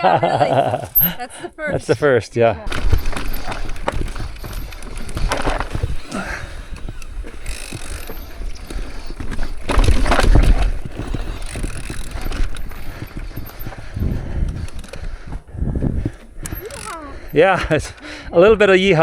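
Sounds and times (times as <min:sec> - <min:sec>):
bike rattling and clattering: 0:00.3 - 0:02.0, 0:02.6 - 0:18.3
tyres rolling on rock: 0:02.6 - 0:18.0.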